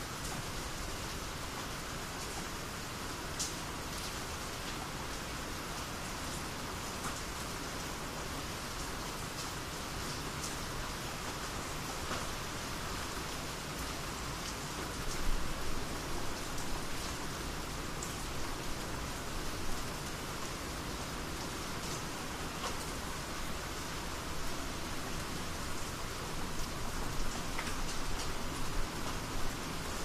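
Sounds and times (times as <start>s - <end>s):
rain falling on surfaces: 0.0s - 30.0s.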